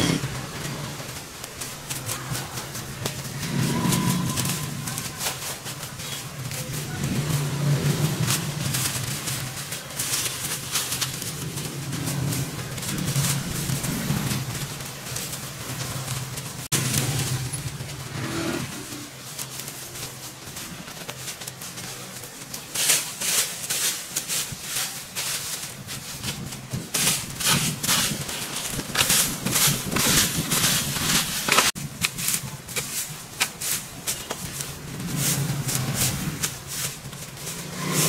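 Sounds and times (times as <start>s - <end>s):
rustling and scraping strokes: 0.0s - 38.0s.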